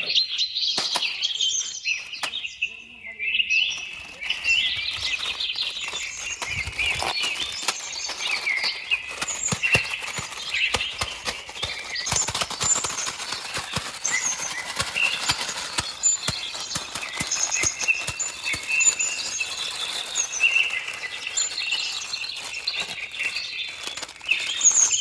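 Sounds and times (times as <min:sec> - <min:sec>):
birds chirping: 0:00.0 - 0:25.0
sharp clicks and taps: 0:00.8 - 0:01.4, 0:03.7 - 0:25.0.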